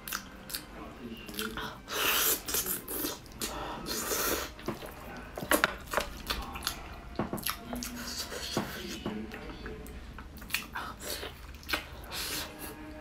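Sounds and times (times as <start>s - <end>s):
wet chewing and sucking: 1.3s - 9.0s, 9.6s - 12.8s.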